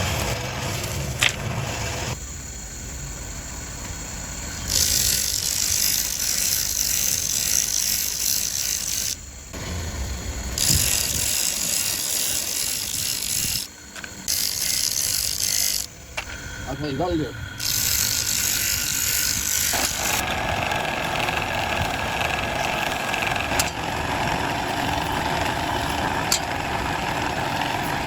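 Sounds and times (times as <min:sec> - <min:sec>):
power tool hissing: 0:04.6 - 0:28.0.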